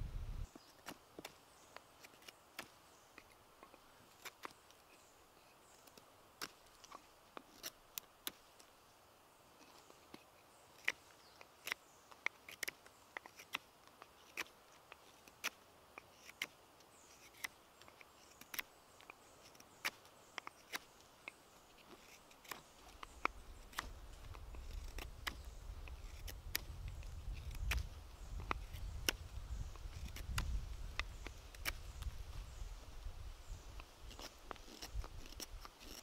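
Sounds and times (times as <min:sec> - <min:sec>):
knife carving wood clicks: 0:00.6 - 0:05.0, 0:05.7 - 0:08.7, 0:09.6 - 0:32.2, 0:33.8 - 0:36.0.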